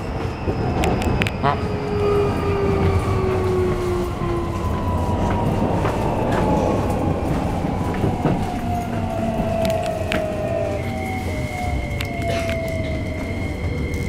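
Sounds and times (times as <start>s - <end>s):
rail joint clicks: 0.0s - 14.0s
train inverter whining: 0.0s - 14.0s
wheel and rail rumble: 0.0s - 14.0s.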